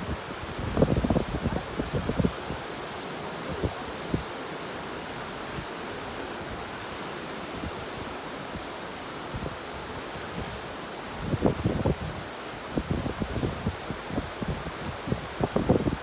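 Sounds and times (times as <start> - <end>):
ocean surf: 0.0 - 16.0
wind gusting against microphone: 0.0 - 16.0.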